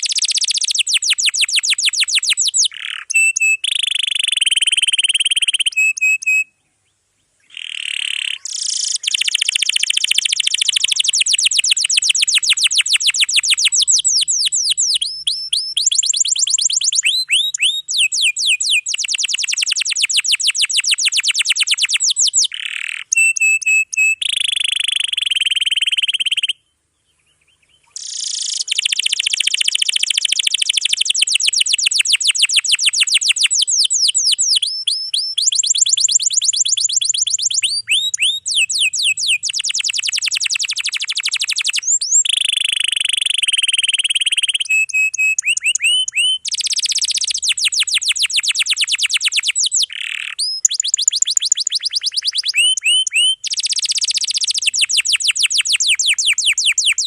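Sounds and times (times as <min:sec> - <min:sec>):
canary singing trills: 0:00.0 - 0:06.6, 0:07.4 - 0:57.0.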